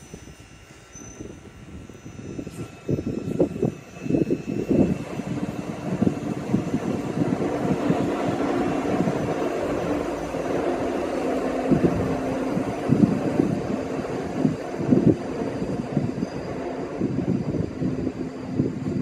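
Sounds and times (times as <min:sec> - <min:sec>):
passenger train passing: 0:00.0 - 0:19.0.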